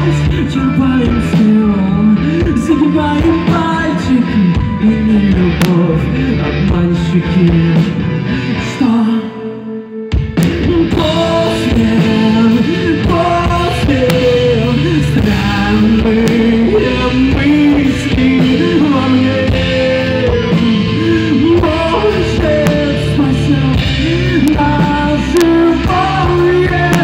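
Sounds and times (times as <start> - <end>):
rock band accompaniment: 0.0 - 27.0
wavering melodic lead line: 0.0 - 27.0.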